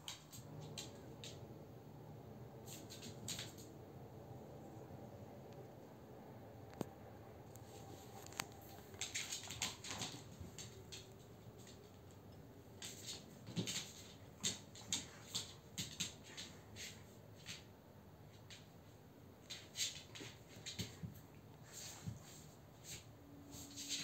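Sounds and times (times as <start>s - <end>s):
paws tapping and scuffling on floor: 0.0s - 1.6s, 2.6s - 3.8s, 7.5s - 24.0s.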